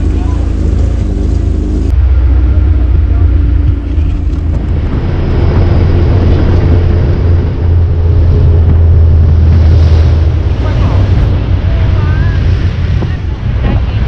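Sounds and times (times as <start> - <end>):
jeep engine rumbling while driving: 0.0 - 14.0.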